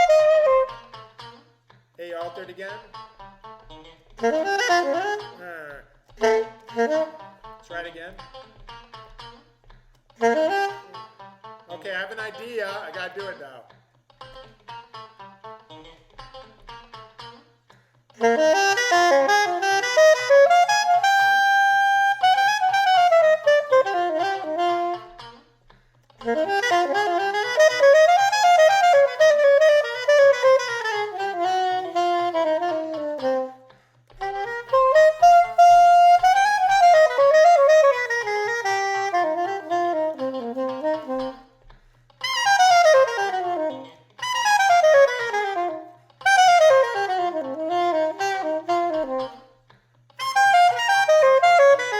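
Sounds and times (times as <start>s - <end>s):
saxophone playing jazz: 0.0s - 1.2s, 2.3s - 9.4s, 10.2s - 13.2s, 18.2s - 25.6s, 26.2s - 51.9s.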